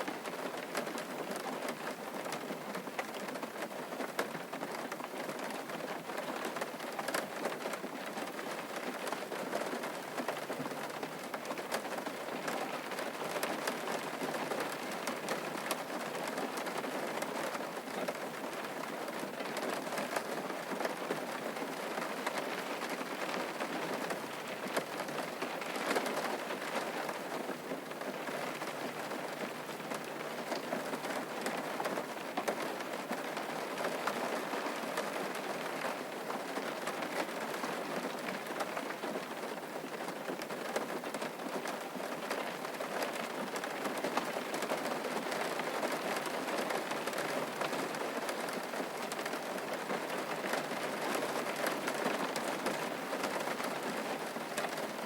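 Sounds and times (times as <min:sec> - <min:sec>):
rain pattering on surface: 0:00.0 - 0:55.0.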